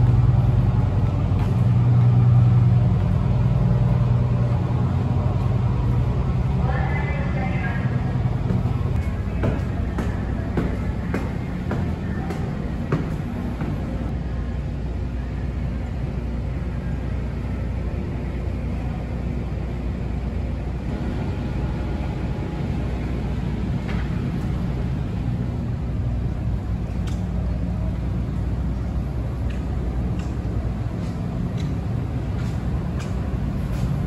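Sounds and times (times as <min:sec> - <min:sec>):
ferry diesel engines droning: 0:00.0 - 0:34.0.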